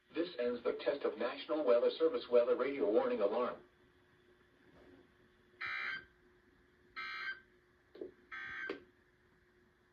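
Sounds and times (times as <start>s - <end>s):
faint steady hum: 0.0s - 9.9s.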